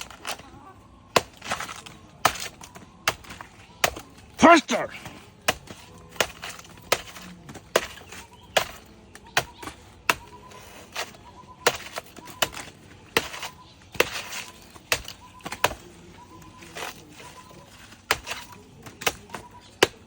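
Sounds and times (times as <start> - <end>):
blade chopping into tree trunk: 1.1 - 4.8, 5.4 - 20.0.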